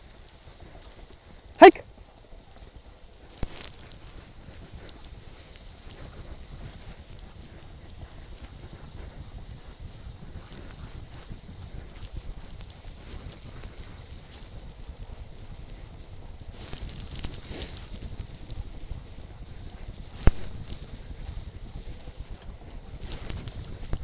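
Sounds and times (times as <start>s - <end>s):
snow crunching under sled: 0.0s - 24.0s.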